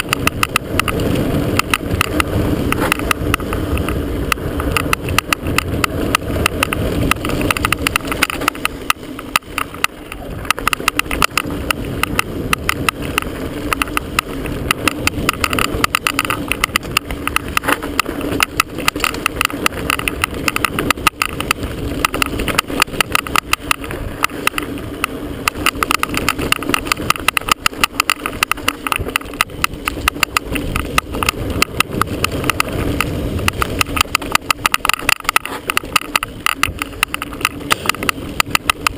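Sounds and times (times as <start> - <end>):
bike tyre noise on dirt: 0.0 - 38.9
camera rattling against mount: 0.0 - 38.9
wind rush: 0.0 - 38.9.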